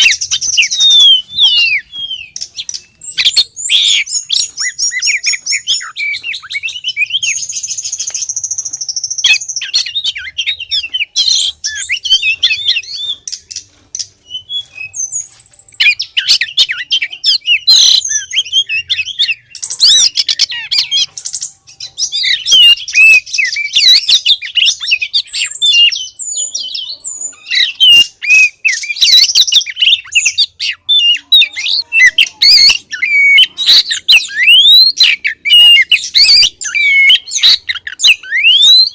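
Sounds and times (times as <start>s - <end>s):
bird singing whistles and trills: 0.0s - 38.9s.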